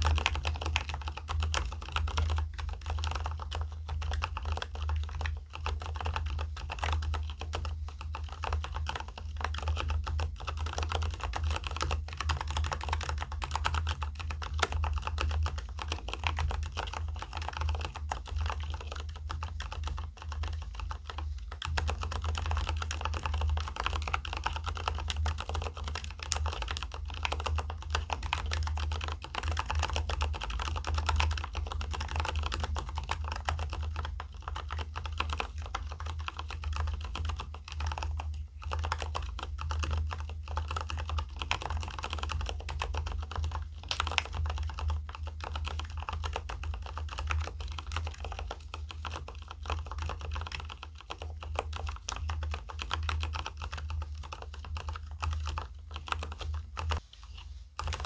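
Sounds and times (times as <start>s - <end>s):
fast typing on mechanical keyboard: 0.0s - 57.0s, 57.8s - 58.0s.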